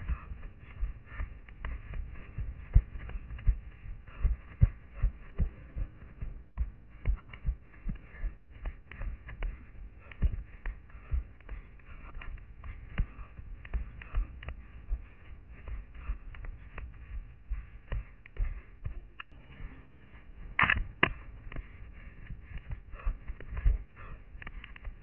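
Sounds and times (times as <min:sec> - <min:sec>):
running footsteps on forest floor: 0:00.0 - 0:25.0.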